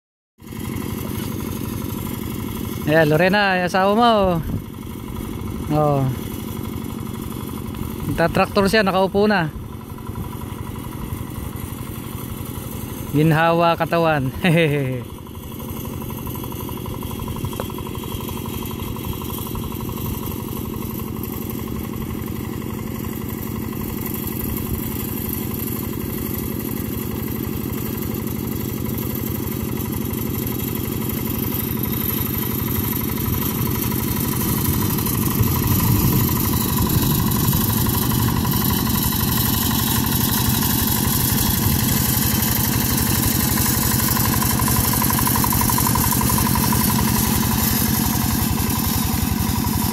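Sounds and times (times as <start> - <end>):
hand tractor engine running: 0.4 - 49.9.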